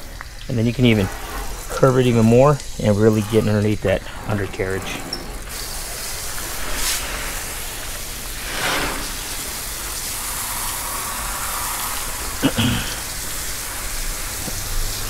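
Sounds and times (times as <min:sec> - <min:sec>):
water spraying on metal: 0:00.0 - 0:15.0.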